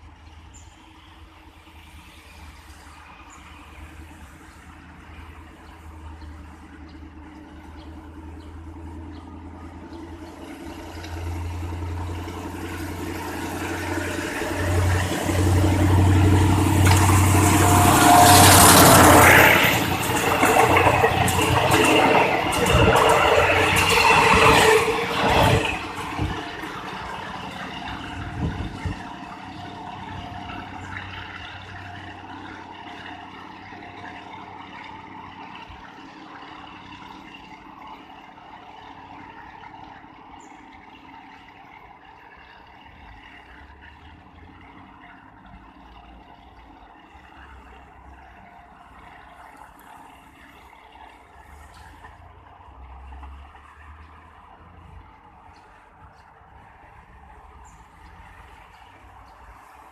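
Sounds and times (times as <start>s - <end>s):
diesel locomotive engine: 0.0s - 59.9s
train wheel clatter: 4.9s - 59.9s.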